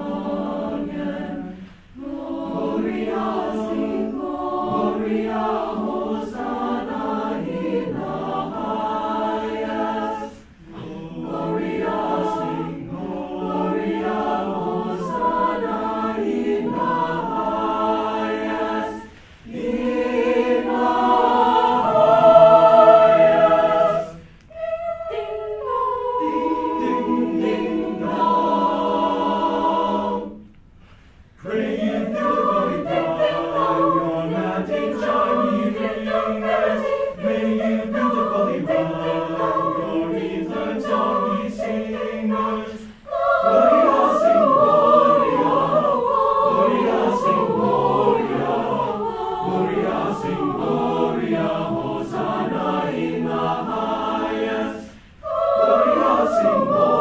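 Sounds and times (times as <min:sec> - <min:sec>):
choir singing: 0:00.0 - 0:30.6, 0:31.3 - 0:57.0.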